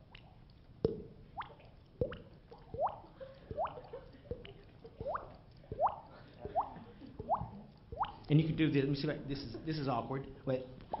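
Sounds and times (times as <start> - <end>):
mouth-made water drip sounds: 0.0 - 11.0.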